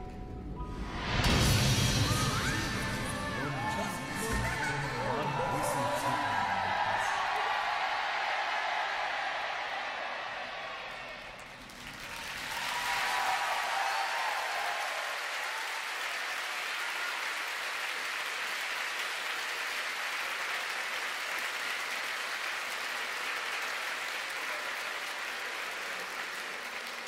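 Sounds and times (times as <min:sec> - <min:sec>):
audience applauding: 0:02.1 - 0:27.0.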